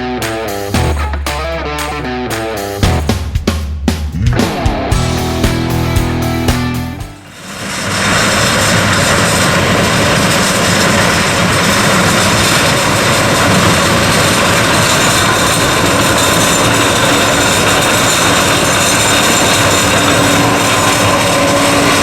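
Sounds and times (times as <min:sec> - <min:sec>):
combine harvester running: 0:04.3 - 0:22.0.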